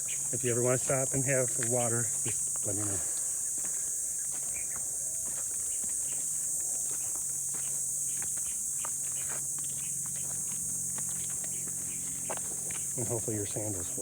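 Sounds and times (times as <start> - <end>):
high-pitched insect chorus: 0.0 - 14.0
footsteps on rocky dirt trail: 1.4 - 14.0.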